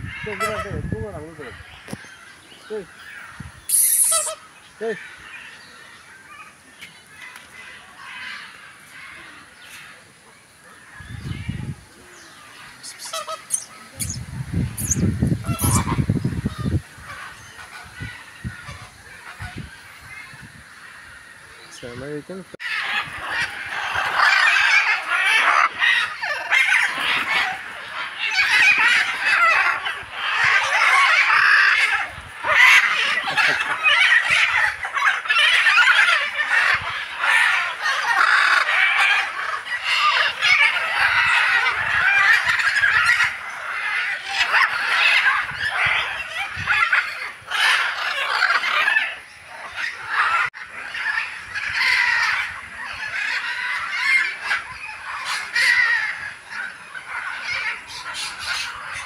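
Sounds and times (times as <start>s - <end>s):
macaws squawking and screeching: 0.0s - 59.0s.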